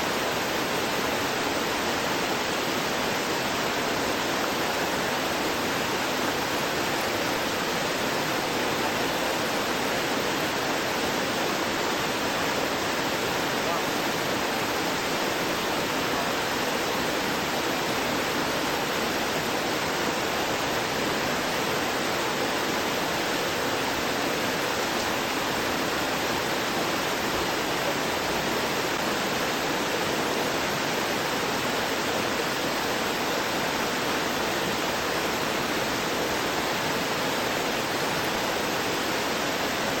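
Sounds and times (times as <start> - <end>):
stream gurgling over rocks: 0.0 - 40.0.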